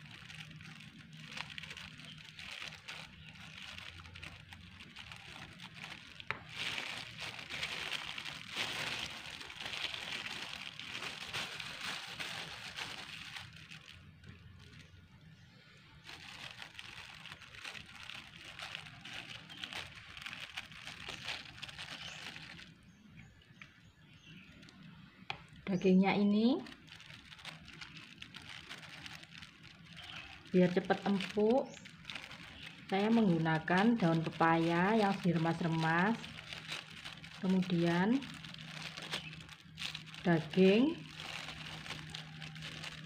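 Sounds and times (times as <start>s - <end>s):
plastic sheet crinkling: 0.0s - 15.1s, 15.8s - 43.0s.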